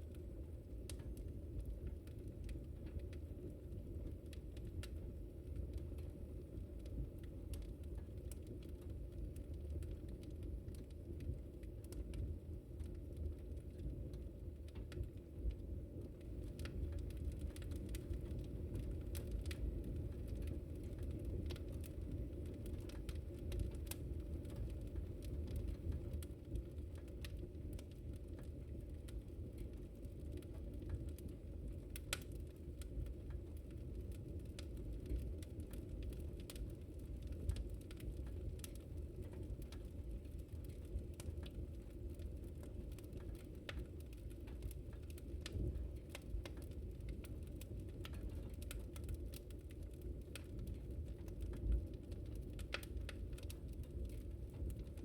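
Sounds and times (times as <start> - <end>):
low steady rumble: 0.0 - 55.0
wood fire crackling: 0.0 - 55.0.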